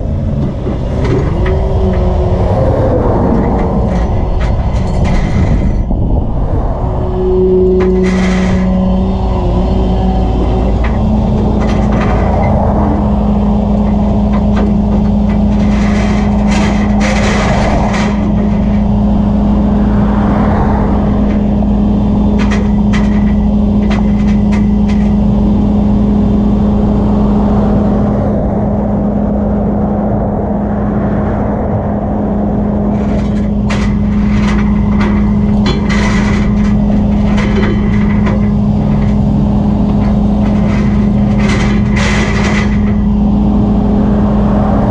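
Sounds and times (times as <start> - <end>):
passing highway traffic: 0.0 - 44.9
truck engine running: 0.0 - 44.9.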